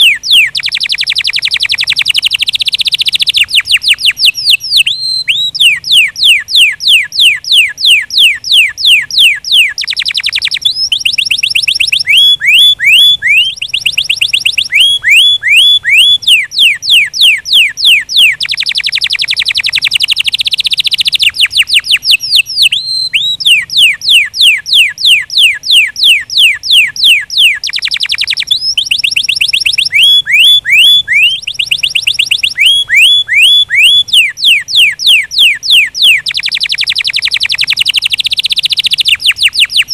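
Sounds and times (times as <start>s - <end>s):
canary singing whistled trills: 0.0s - 39.9s.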